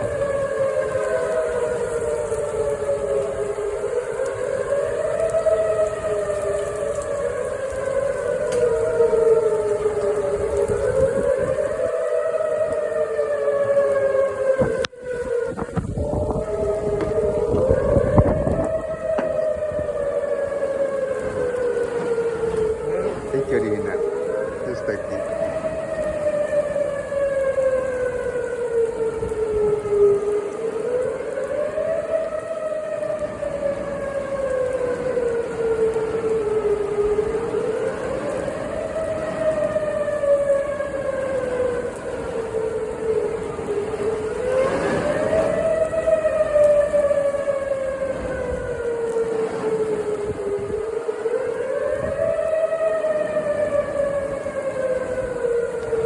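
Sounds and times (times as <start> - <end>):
storm warning siren wailing: 0.0 - 56.0.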